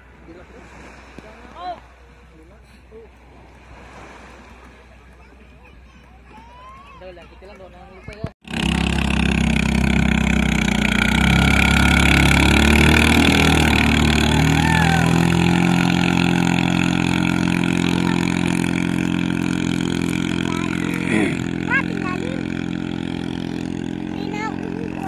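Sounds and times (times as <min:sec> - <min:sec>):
boat engine running at speed: 0:00.0 - 0:25.0.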